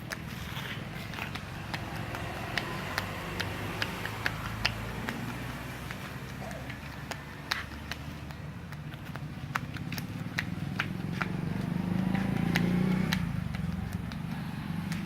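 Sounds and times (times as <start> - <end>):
hands clicking and tapping on head: 0.0 - 15.0
low traffic rumble: 0.0 - 15.0.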